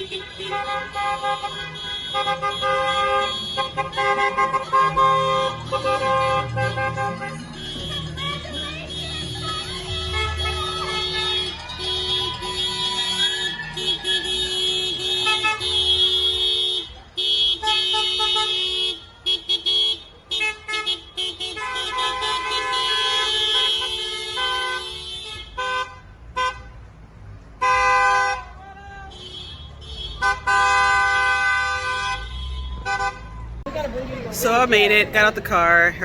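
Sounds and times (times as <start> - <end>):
car horns honking: 0.0 - 26.8, 27.6 - 36.0.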